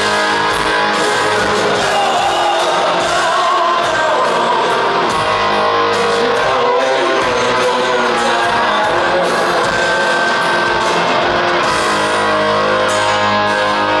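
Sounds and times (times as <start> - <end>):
distorted electric guitars: 0.0 - 14.0
drums: 0.0 - 14.0.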